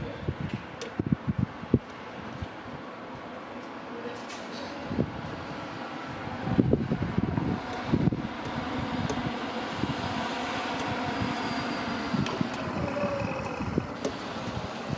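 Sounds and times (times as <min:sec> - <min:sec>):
wind buffeting microphone: 0:00.0 - 0:02.9, 0:04.8 - 0:14.9.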